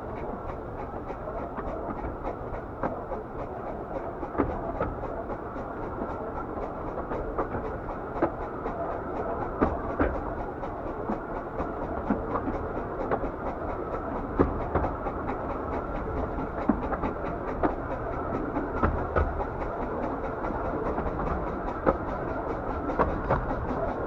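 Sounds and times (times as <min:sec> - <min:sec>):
railway carriage rumble: 0:00.0 - 0:24.0.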